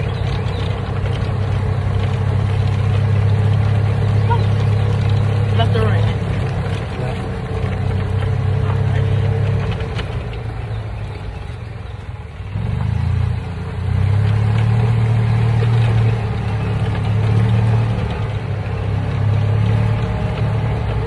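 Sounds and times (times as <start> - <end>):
golf cart humming: 0.0 - 21.0.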